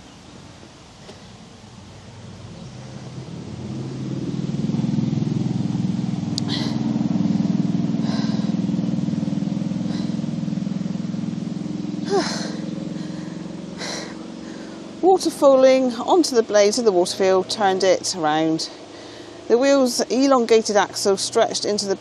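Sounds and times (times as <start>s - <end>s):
vehicle engine passing by: 1.4s - 22.0s.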